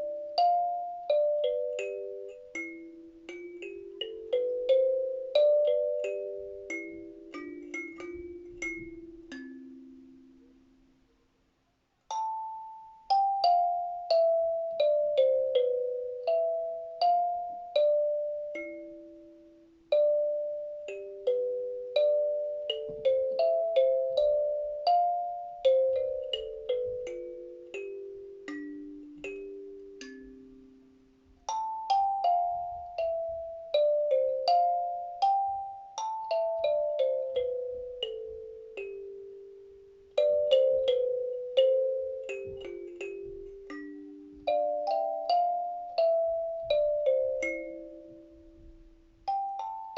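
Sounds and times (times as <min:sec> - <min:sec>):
kalimba played slowly: 0:00.0 - 0:11.1, 0:12.1 - 0:49.9.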